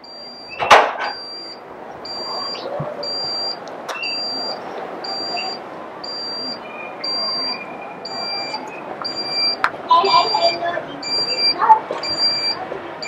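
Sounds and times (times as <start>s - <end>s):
high electronic alarm beeps: 0.0s - 12.6s.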